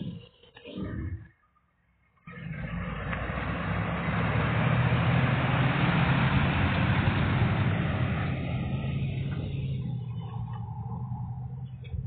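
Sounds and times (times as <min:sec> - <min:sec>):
truck engine idling: 0:02.0 - 0:12.0.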